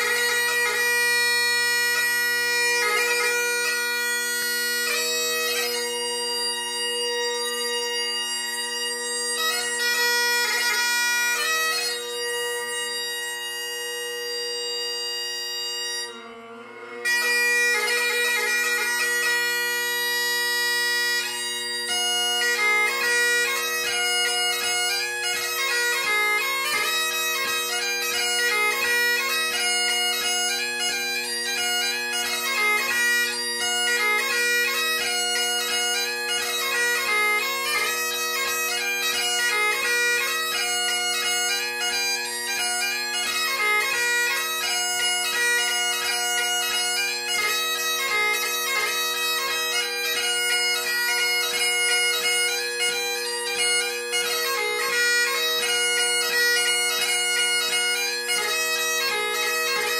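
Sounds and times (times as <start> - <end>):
bagpipe chanter melody: 0.0 - 59.9
bagpipe drones: 0.0 - 59.9.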